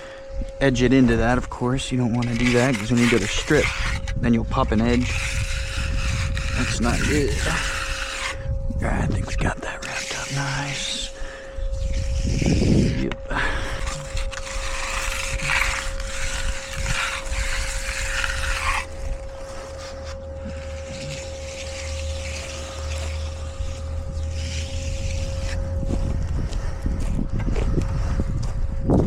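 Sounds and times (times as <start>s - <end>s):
machine humming and rumbling: 0.0s - 29.0s.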